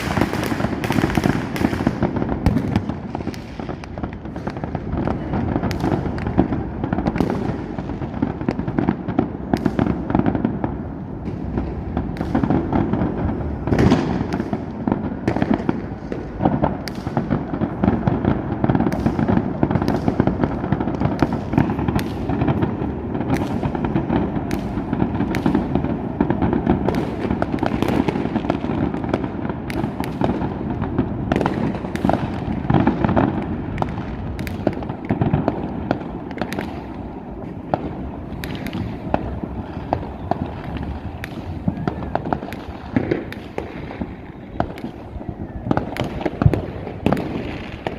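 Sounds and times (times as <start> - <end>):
fireworks crackling and rumbling: 0.0 - 47.9
sharp firework bangs: 0.0 - 47.9.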